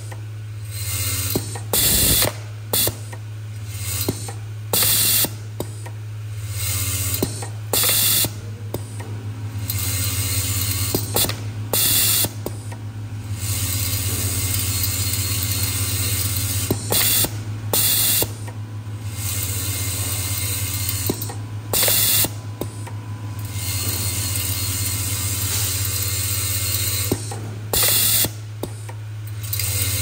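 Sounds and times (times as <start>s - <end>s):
electromagnetic hum: 0.0s - 30.0s.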